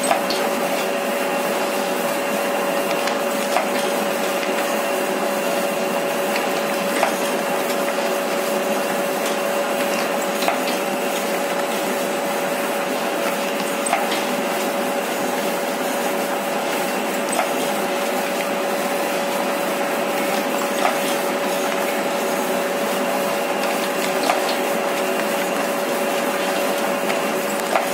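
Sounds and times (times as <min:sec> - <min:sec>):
steady motor hum: 0:00.0 - 0:27.9.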